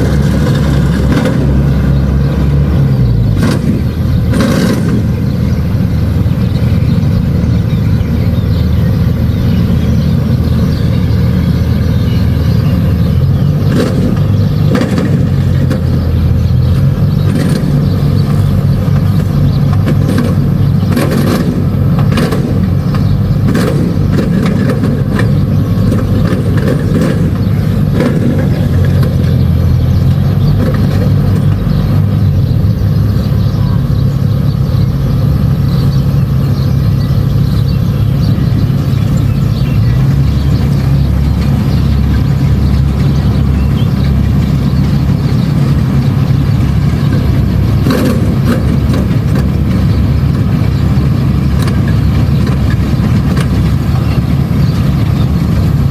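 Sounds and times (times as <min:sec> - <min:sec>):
combine harvester diesel engine: 0:00.0 - 0:55.9
machinery clattering knocks: 0:00.0 - 0:55.9.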